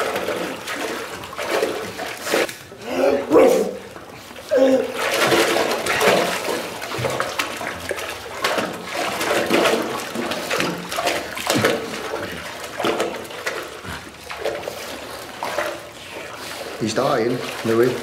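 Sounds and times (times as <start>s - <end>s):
water sloshing and gurgling: 0.0s - 18.0s.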